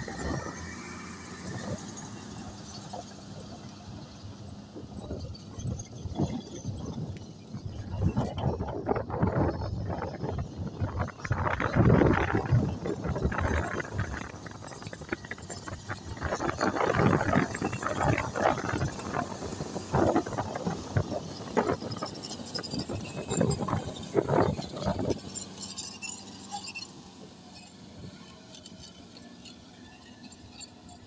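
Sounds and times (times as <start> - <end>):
bulldozer engine and tracks: 0.0 - 31.0.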